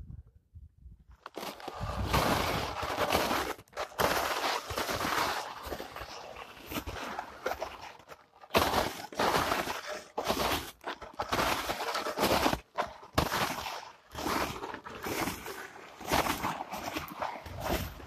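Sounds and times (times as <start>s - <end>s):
footsteps crunching in snow: 1.2s - 18.0s.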